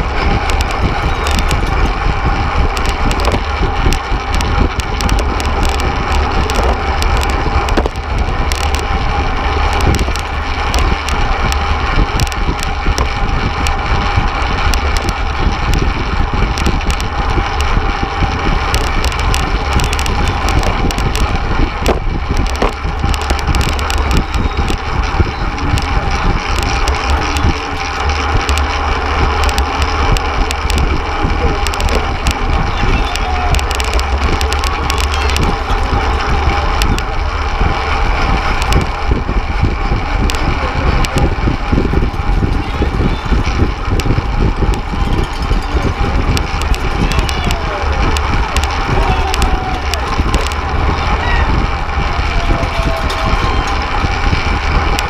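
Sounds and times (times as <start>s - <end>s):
tyre and road noise: 0.0s - 55.0s
wind buffeting microphone: 0.0s - 55.0s.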